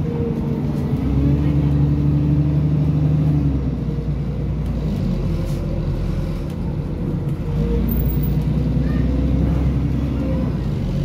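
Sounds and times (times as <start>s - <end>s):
bus diesel engine: 0.0s - 11.0s
road rumble: 0.0s - 11.0s.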